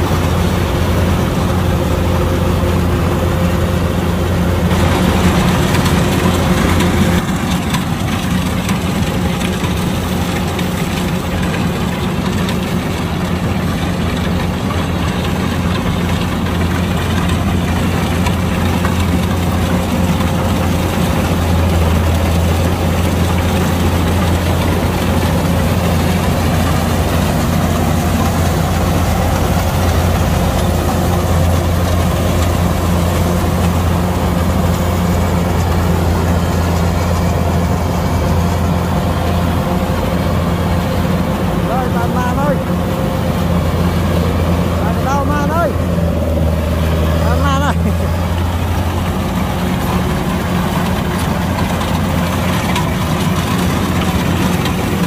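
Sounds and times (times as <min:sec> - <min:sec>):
combine harvester diesel engine: 0:00.0 - 0:55.0.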